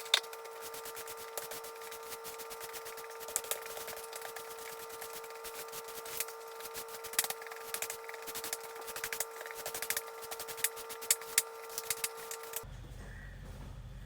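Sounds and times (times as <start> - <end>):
broom sweeping floor: 0.0 - 12.6
steady hum: 0.0 - 14.0.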